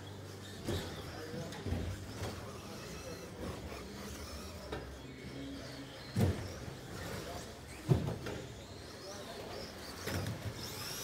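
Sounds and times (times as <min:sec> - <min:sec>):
rc trucks motor whir: 0:00.3 - 0:11.0.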